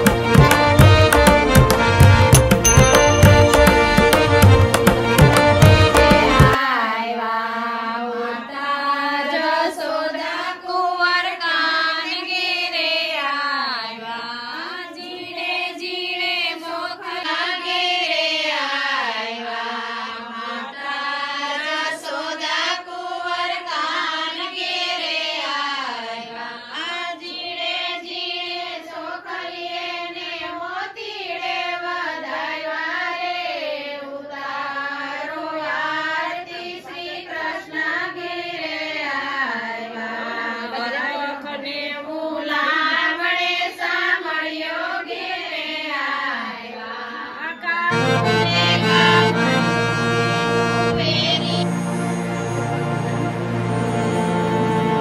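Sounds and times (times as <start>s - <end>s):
person singing devotional song: 0.0s - 53.0s.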